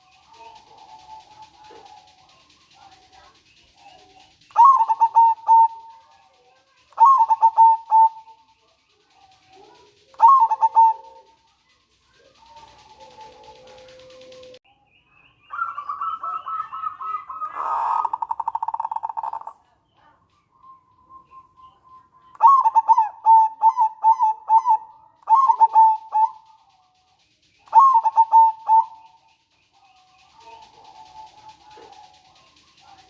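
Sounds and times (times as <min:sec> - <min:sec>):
dove calling and trilling: 0:00.0 - 0:14.6, 0:15.3 - 0:33.0.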